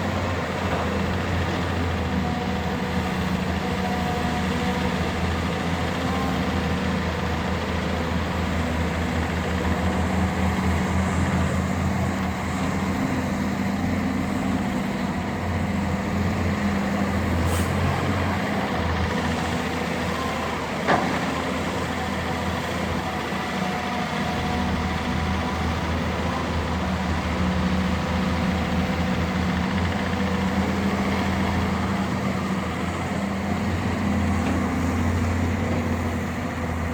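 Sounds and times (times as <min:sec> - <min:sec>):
heavy diesel machinery running: 0:00.0 - 0:36.9.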